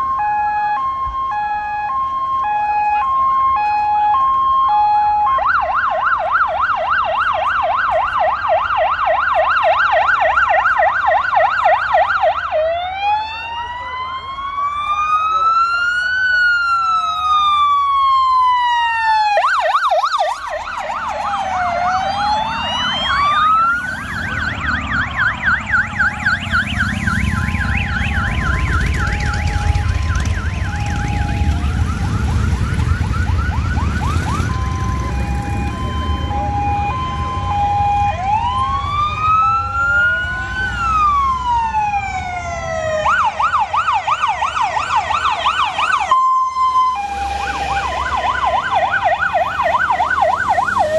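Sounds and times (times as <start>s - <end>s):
emergency vehicle sirens: 0.0s - 50.9s
rumble of slow vehicles: 0.0s - 50.9s.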